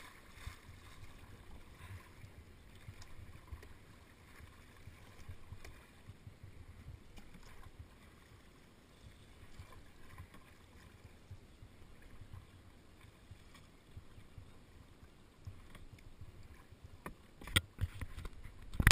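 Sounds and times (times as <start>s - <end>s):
soft paddle strokes: 0.0s - 18.9s
water moving against hull: 0.0s - 18.9s.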